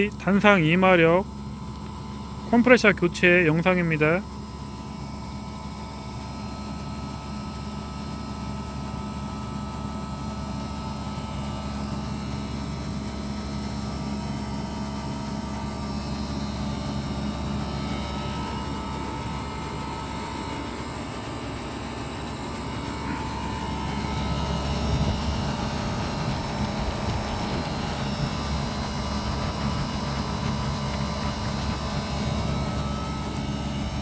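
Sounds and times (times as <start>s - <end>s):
refrigeration compressor humming: 0.0s - 34.0s.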